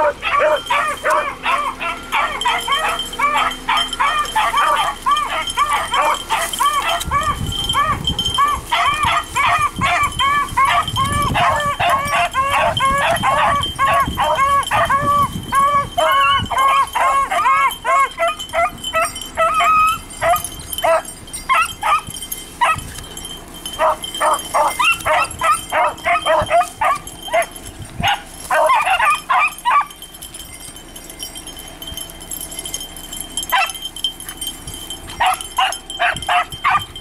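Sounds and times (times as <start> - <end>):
dogs baying and yipping: 0.0 - 37.0.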